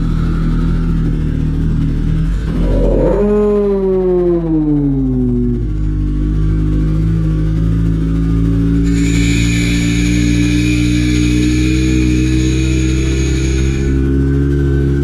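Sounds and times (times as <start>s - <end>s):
motorcycle engine at low speed: 0.0s - 15.0s
steady high whine: 0.0s - 15.0s.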